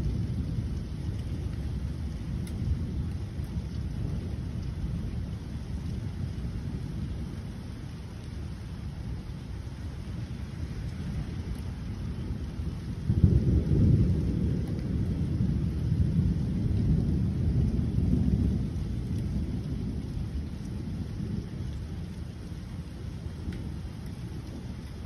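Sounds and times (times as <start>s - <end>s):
rolling thunder: 0.0s - 7.7s, 11.0s - 25.0s.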